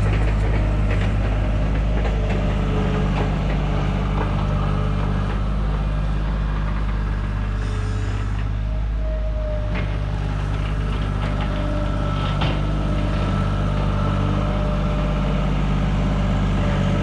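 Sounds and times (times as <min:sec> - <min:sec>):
digger diesel engine running: 0:00.0 - 0:17.0.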